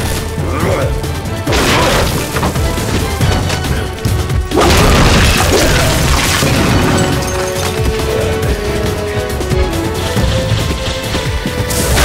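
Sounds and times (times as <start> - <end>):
cartoon action music: 0.0 - 12.0.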